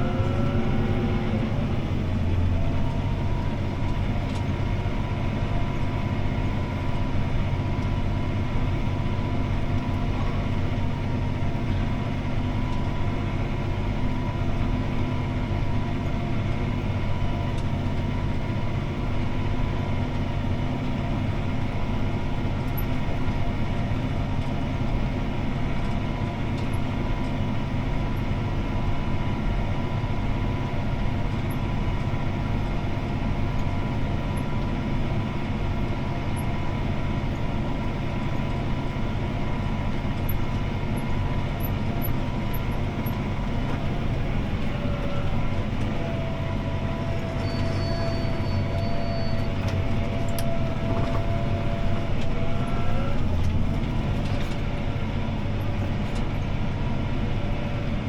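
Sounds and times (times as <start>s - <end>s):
tractor engine droning with whine: 0.0s - 58.0s.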